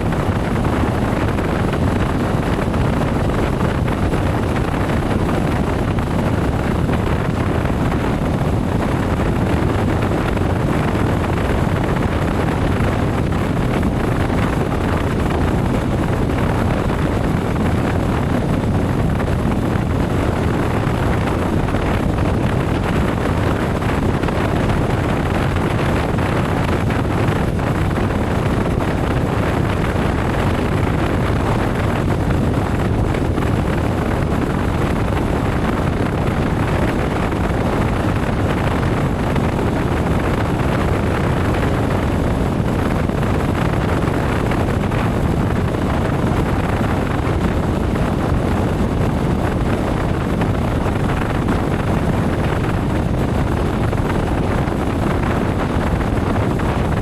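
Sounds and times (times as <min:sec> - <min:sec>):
wind rush on microphone: 0:00.0 - 0:57.0.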